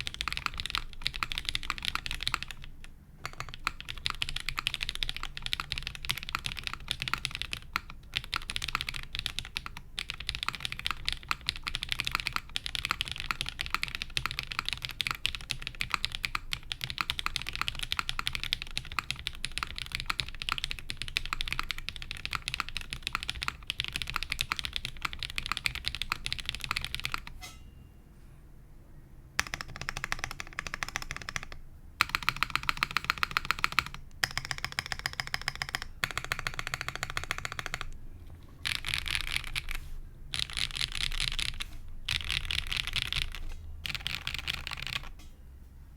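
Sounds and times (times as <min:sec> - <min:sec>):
mechanical keyboard typing: 0:00.0 - 0:27.4, 0:29.4 - 0:45.2.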